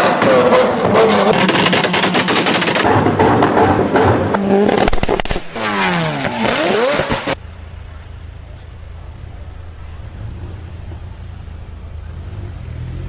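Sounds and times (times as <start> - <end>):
car exhaust popping and crackling: 0.0 - 12.1
car engine revving: 0.0 - 13.0.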